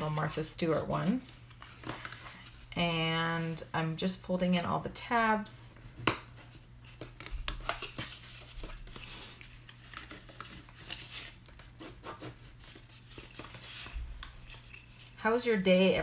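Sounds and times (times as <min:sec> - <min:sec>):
cardstock crinkling and folding: 0:00.0 - 0:05.0, 0:05.8 - 0:15.2.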